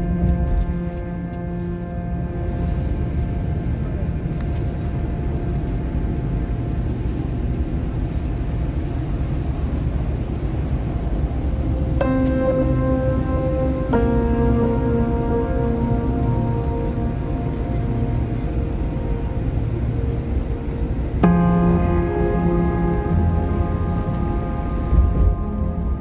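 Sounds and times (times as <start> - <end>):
background music: 0.0 - 8.6, 10.9 - 26.0
bus engine and road noise: 0.0 - 12.2, 13.6 - 26.0.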